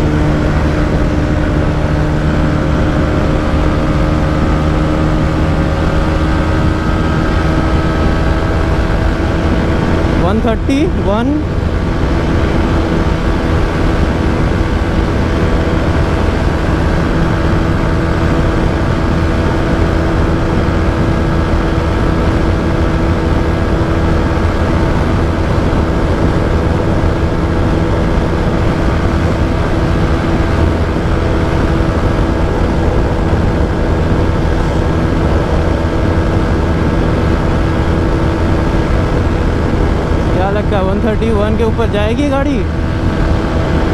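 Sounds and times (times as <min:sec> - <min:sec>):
motorcycle engine at high revs: 0:00.0 - 0:43.9.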